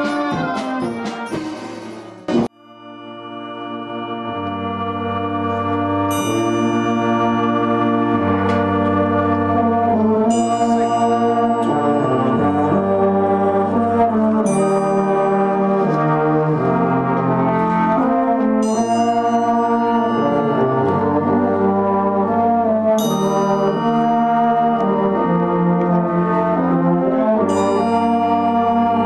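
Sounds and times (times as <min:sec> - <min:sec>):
brass band playing chords: 0:00.0 - 0:29.0.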